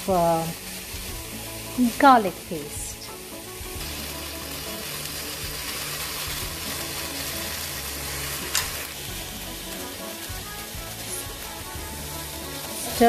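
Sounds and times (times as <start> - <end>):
onion paste sizzling in a pan: 0.0 - 13.0.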